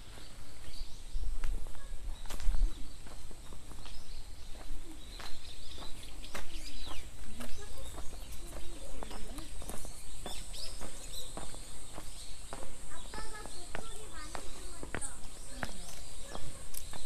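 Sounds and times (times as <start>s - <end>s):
birds chirping: 0.0s - 17.0s
lower wavering bird calls: 0.0s - 17.0s.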